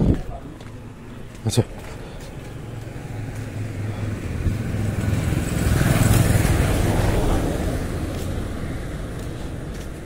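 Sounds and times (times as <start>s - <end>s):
motor vehicle passing by: 0.8s - 10.0s.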